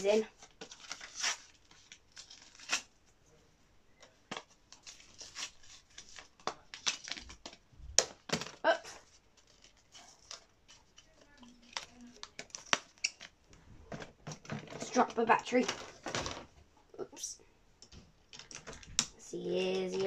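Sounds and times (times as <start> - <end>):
rustling: 0.0 - 16.7.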